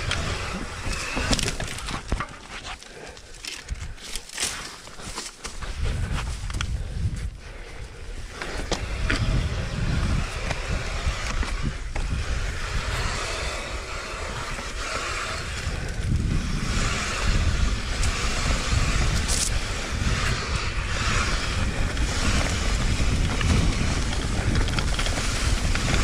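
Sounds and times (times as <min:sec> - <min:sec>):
wind buffeting microphone: 0:00.0 - 0:02.3, 0:05.6 - 0:26.0
bike tyres rolling on dirt: 0:00.0 - 0:26.0.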